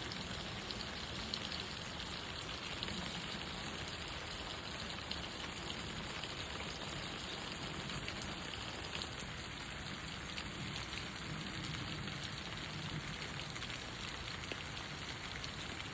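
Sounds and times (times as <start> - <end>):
rain falling on leaves: 0.0 - 15.9.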